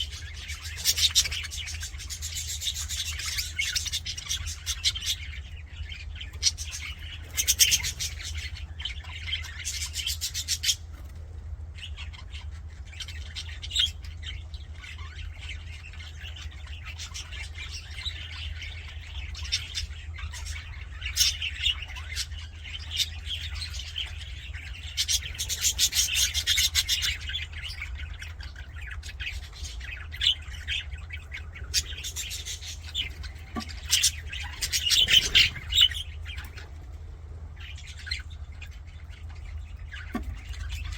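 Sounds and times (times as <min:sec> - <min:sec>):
budgerigars chattering and warbling: 0:00.0 - 0:40.9
steady low hum: 0:00.0 - 0:40.9.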